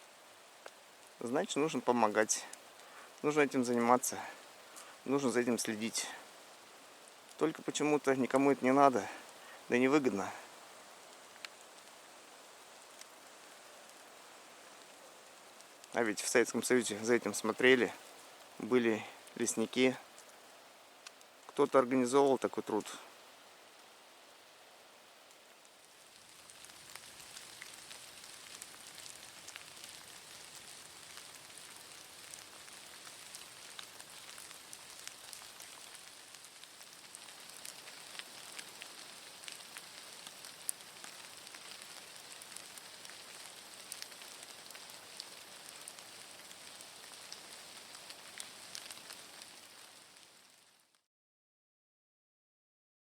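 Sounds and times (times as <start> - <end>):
raindrops ticking: 0.0 - 24.4, 25.2 - 51.0
steady rain hiss: 0.0 - 51.1.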